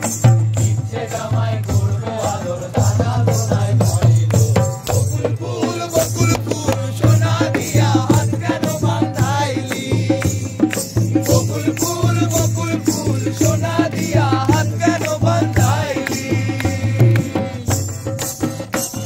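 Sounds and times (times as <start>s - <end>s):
group singing a folk song: 0.0s - 19.0s
hand-beaten drums: 0.0s - 19.0s.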